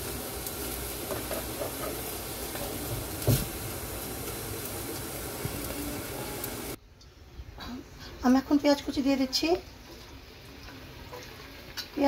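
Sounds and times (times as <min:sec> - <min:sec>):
stovetop hiss and hum: 0:00.0 - 0:12.0.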